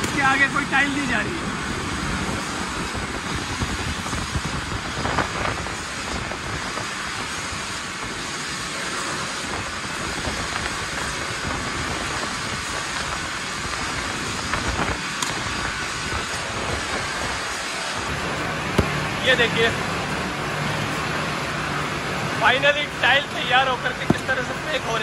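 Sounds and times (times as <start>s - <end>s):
machinery hiss and rumble: 0.0s - 25.0s.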